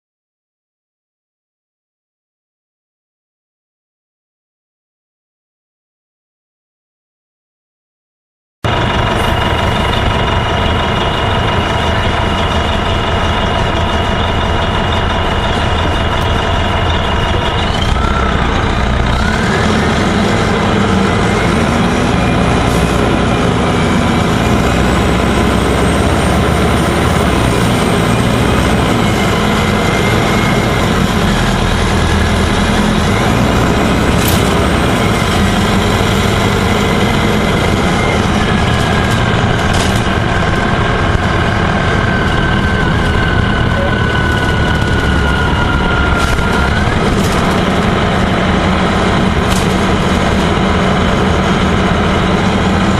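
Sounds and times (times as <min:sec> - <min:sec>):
bus engine drone: 0:08.6 - 0:52.9
drivetrain whine: 0:08.7 - 0:52.9.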